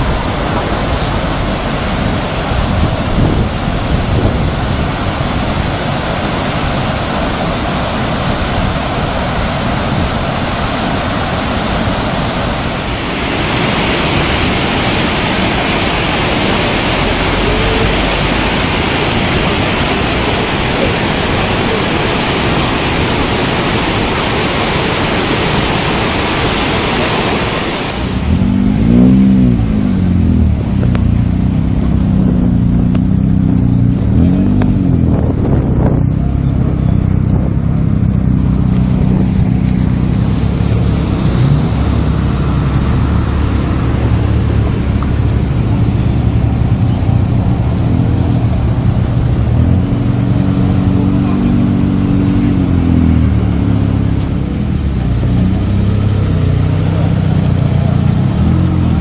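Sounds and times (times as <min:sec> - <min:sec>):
car engines passing slowly: 0:00.0 - 0:59.0.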